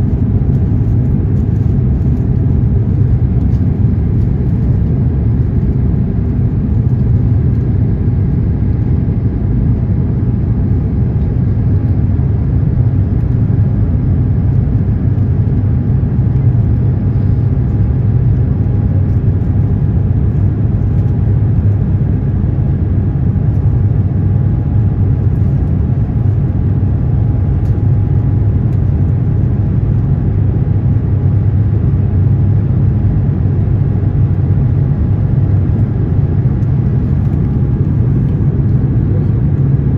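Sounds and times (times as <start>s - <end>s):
airplane cabin rumble: 0.0s - 39.9s
faint steady hum: 0.0s - 39.9s.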